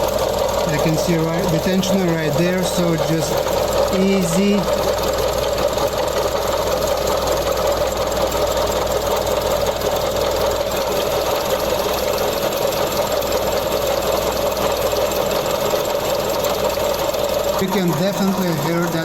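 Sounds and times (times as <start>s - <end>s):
car engine running: 0.0s - 19.0s
gritty noise from tensioner pulley: 0.0s - 19.0s.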